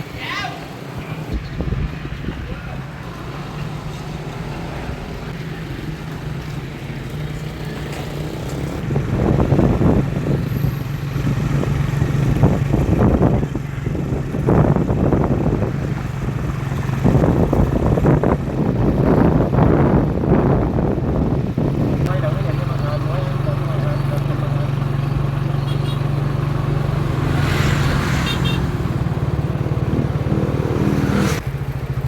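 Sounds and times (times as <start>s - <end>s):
wind buffeting microphone: 0.0s - 7.0s, 8.3s - 23.1s, 24.7s - 32.0s
motorbike engine running: 5.4s - 32.0s.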